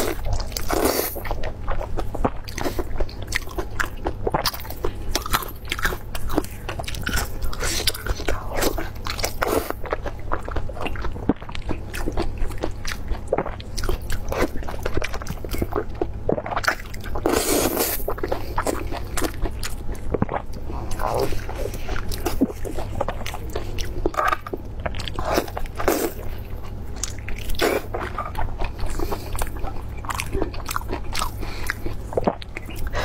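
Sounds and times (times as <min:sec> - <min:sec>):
mouth chewing and biting: 0:00.0 - 0:33.0.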